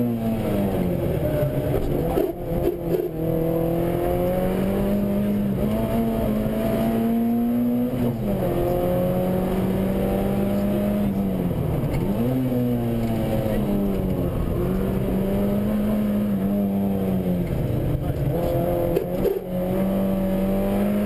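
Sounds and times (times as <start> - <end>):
rally car engine running hard: 0.0 - 21.0.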